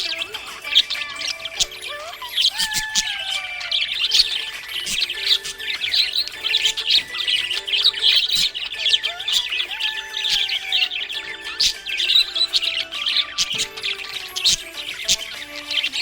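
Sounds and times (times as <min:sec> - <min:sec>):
parrots chirping and chattering: 0:00.0 - 0:16.0.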